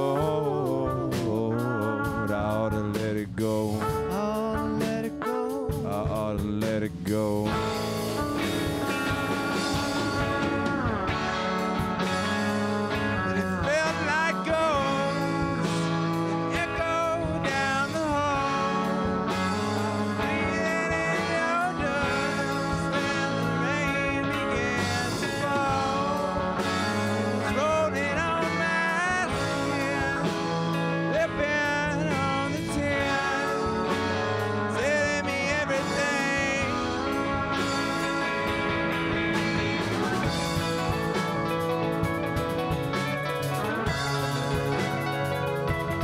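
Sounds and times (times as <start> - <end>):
bending lead guitar melody: 0.0 - 46.0
rock band playing: 0.0 - 46.0.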